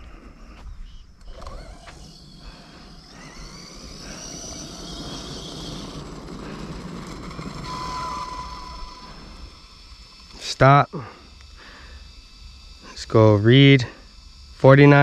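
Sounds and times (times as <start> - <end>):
electric motor whining: 0.0 - 15.0
tyres on gravel: 0.0 - 15.0.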